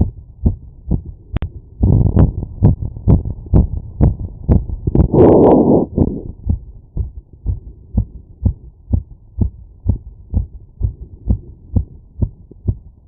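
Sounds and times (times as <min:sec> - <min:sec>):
heartbeat through stethoscope: 0:00.0 - 0:13.0.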